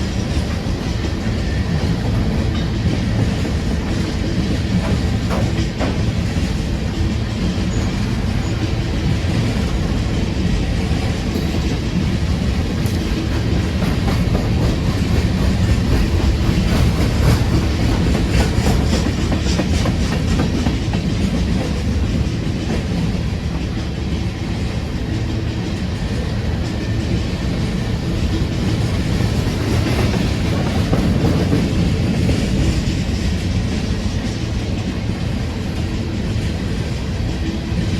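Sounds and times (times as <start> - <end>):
freight train rumbling past: 0.0 - 37.9.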